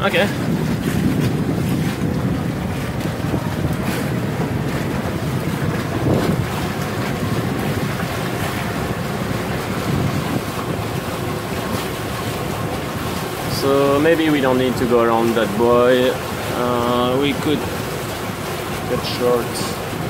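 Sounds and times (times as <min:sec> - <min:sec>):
water splashing along boat hull: 0:00.0 - 0:20.0
wind buffeting microphone: 0:00.0 - 0:20.0.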